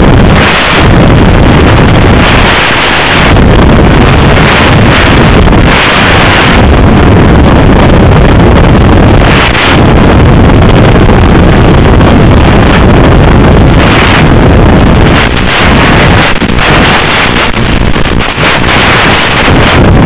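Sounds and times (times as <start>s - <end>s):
wind over microphone: 0.0s - 20.0s.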